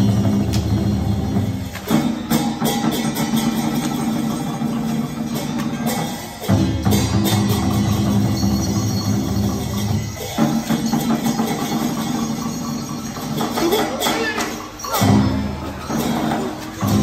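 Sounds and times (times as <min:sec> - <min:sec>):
drums and percussion: 0:00.0 - 0:17.0
traditional ensemble music: 0:00.0 - 0:17.0.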